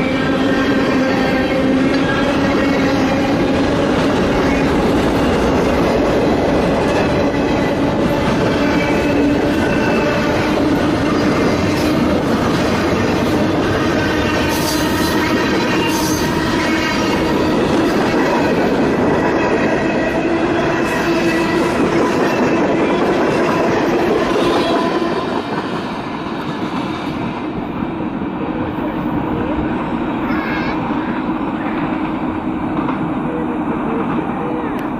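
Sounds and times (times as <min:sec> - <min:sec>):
train cars clacking over rails: 0:00.0 - 0:34.9.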